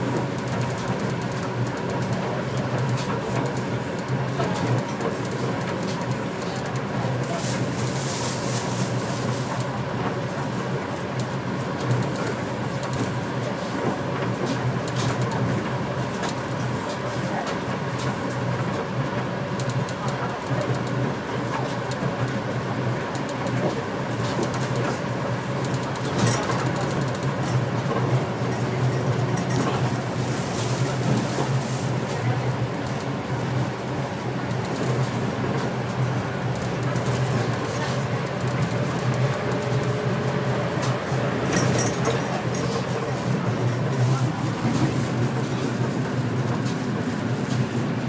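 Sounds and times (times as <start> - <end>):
train cabin hum: 0.0 - 48.0
train rolling noise: 0.0 - 48.0.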